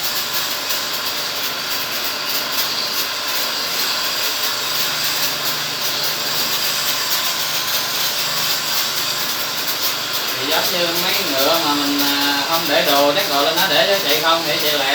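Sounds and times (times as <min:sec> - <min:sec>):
pressure washer water jet hiss: 0:00.0 - 0:14.9
washer motor humming: 0:00.0 - 0:14.9.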